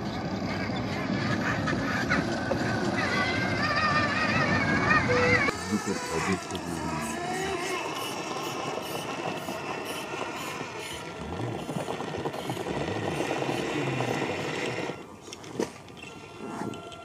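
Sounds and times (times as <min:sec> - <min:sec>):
electric motor and gears whirring: 0:01.7 - 0:17.0.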